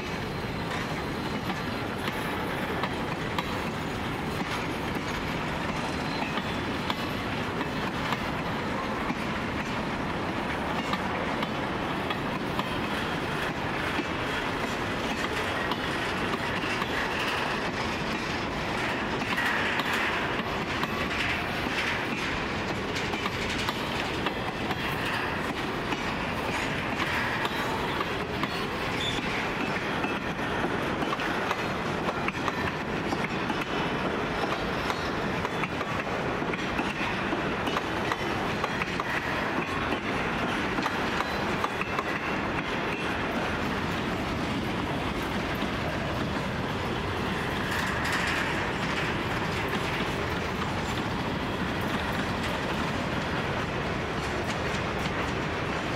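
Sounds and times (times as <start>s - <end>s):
train wheels rumbling on track: 0.0s - 55.9s
wheels clicking over rail joints: 0.1s - 55.9s.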